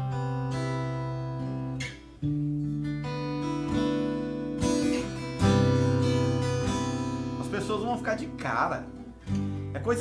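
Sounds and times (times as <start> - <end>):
acoustic guitar strummed: 0.0 - 10.0.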